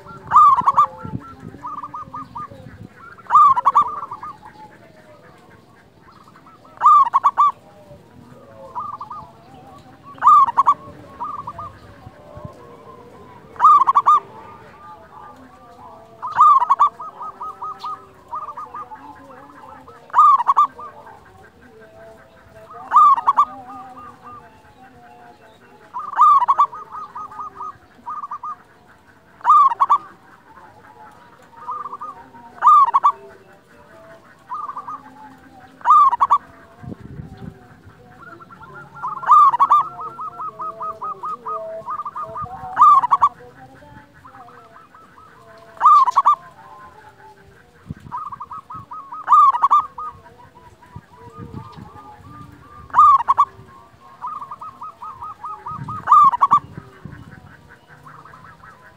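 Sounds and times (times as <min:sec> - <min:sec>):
dove cooing: 0:00.0 - 0:58.9.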